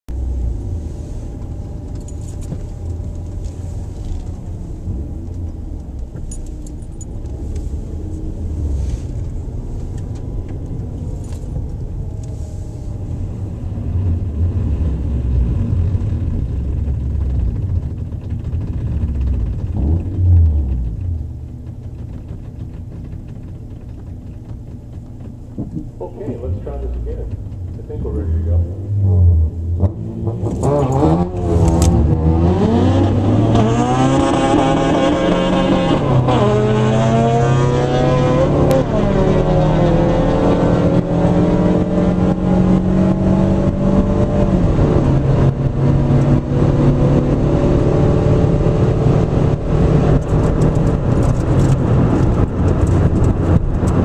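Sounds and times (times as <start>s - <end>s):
car engine low rumble: 0.1s - 54.0s.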